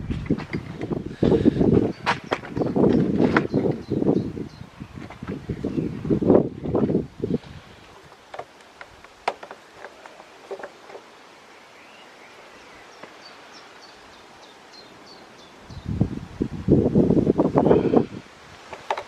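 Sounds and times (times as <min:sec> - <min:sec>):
wind rumbling on microphone: 0:00.0 - 0:10.7, 0:14.4 - 0:19.0.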